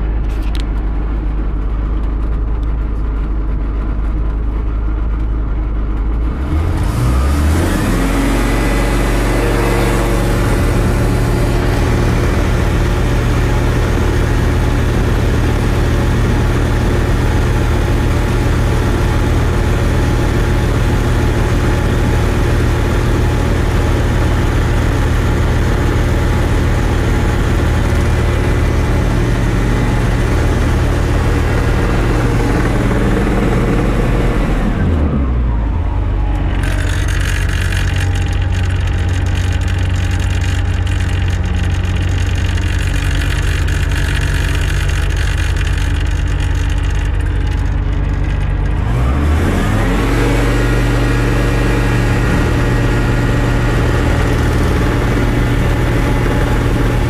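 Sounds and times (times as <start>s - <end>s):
small engine revving: 6.2s - 57.0s.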